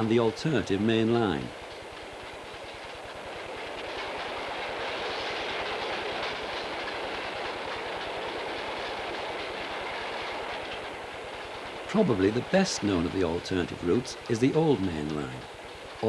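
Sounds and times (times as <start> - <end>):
train wagons rolling on rails: 0.0 - 16.0.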